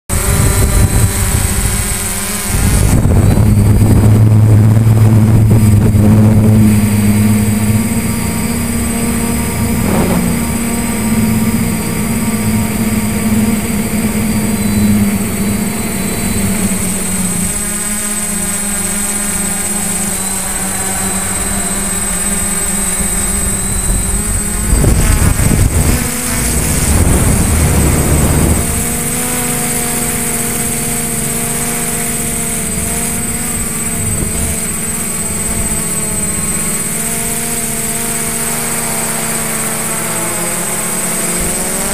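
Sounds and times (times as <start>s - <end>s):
drone propellers whirring: 0.1s - 41.9s.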